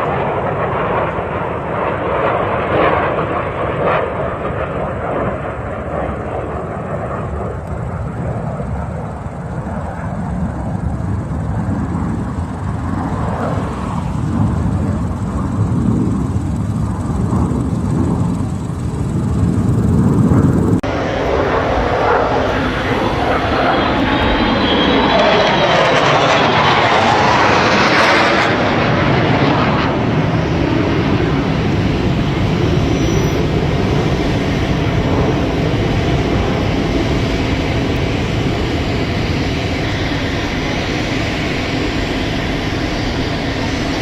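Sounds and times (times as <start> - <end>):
jets flying overhead: 0.0 - 44.0.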